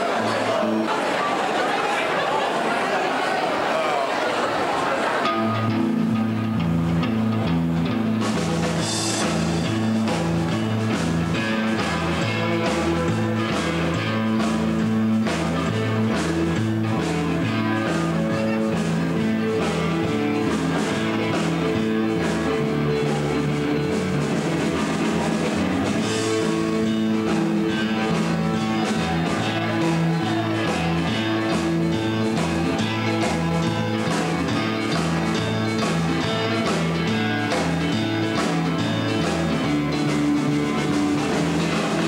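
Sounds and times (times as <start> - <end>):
live rock band: 0.0 - 42.0
bass line: 5.2 - 42.0.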